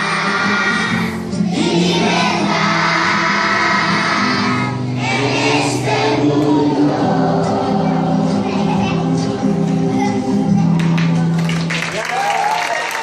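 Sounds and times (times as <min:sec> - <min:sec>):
children's choir singing: 0:00.0 - 0:10.8.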